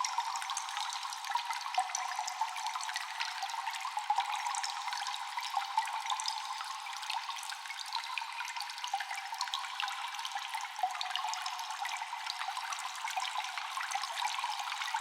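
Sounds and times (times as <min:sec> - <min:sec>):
water dripping in cave: 0:00.0 - 0:15.0.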